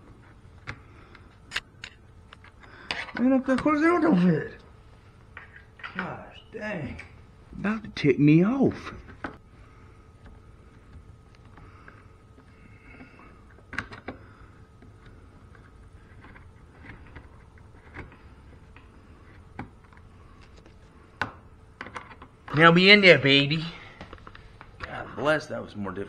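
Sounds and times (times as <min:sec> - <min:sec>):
faint room hum: 0:00.0 - 0:26.0.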